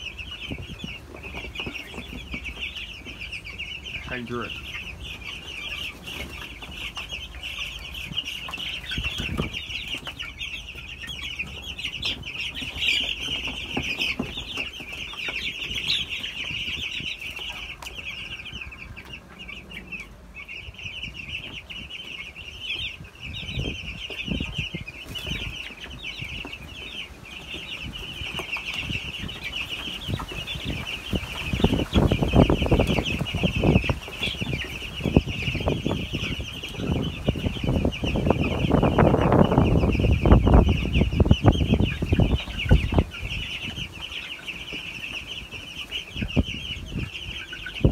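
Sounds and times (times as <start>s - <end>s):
chicks peeping: 0.0s - 47.9s.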